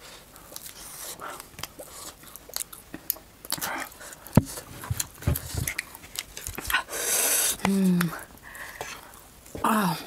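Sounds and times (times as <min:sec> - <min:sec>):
people chewing meat: 0:00.0 - 0:09.3.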